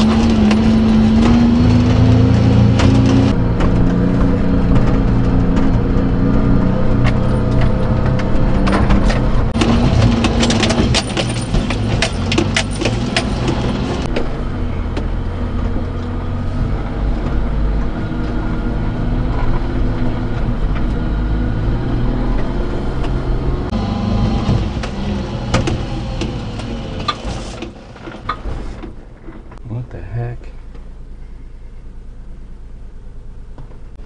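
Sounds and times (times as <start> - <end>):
truck knocking and rattling: 0.0 - 29.6
truck engine running: 0.0 - 29.8.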